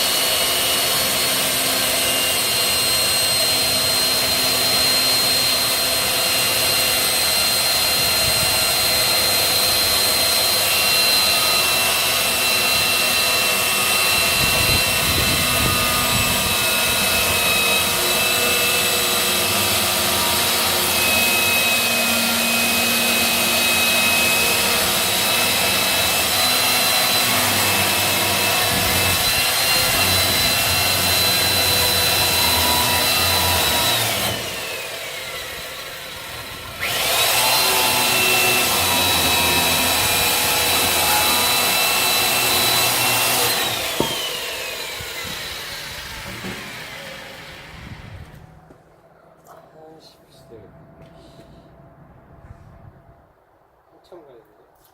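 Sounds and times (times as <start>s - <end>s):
electric chainsaw cutting wood: 0.0s - 48.5s.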